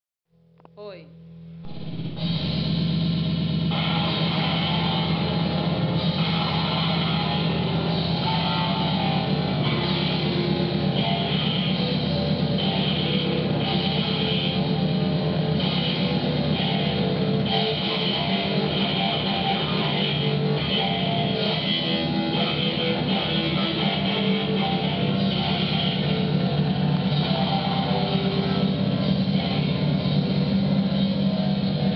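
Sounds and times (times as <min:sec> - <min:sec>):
distorted noise wall: 0:00.3 - 0:31.9
low drone: 0:01.2 - 0:31.9.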